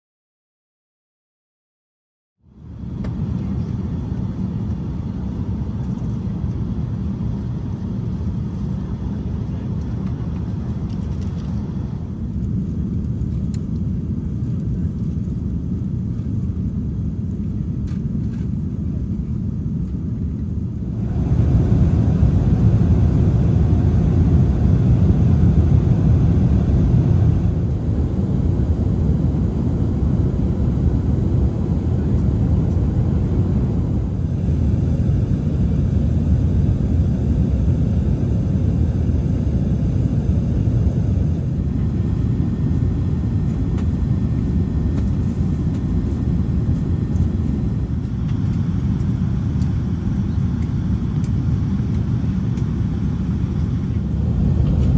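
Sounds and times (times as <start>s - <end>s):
airplane cabin engine rumble: 2.6s - 54.9s.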